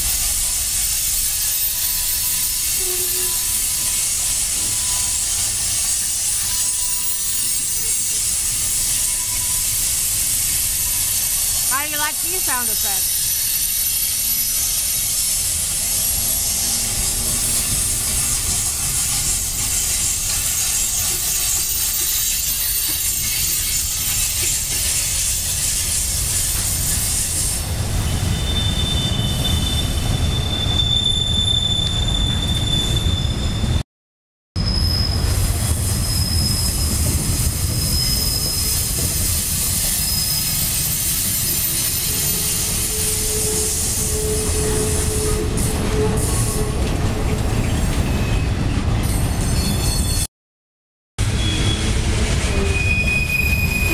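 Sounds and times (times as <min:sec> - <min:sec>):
freight train wheels rumbling: 0:00.0 - 0:33.8, 0:34.6 - 0:50.2, 0:51.2 - 0:53.9
train wheels squealing: 0:00.0 - 0:33.8, 0:34.6 - 0:50.3, 0:51.2 - 0:53.9.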